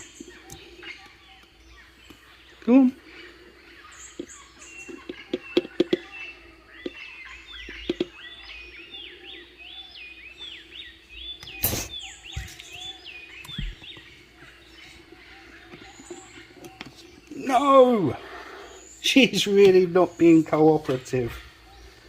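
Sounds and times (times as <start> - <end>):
songbird singing whistled notes: 0.0 - 22.0.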